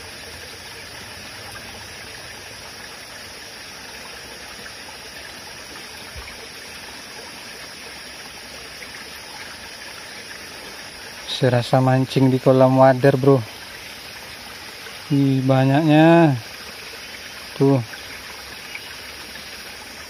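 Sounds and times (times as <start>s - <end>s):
stream flowing and trickling: 0.0s - 20.0s.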